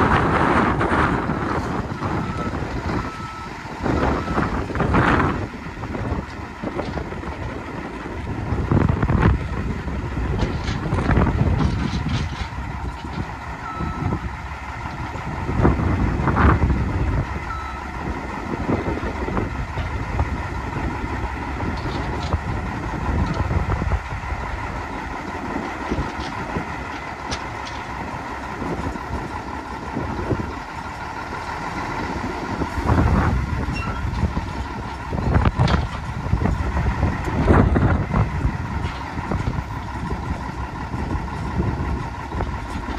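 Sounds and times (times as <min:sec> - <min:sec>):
wind on microphone: 0:00.0 - 0:27.0, 0:31.9 - 0:42.9
truck diesel engine idling: 0:00.0 - 0:42.9.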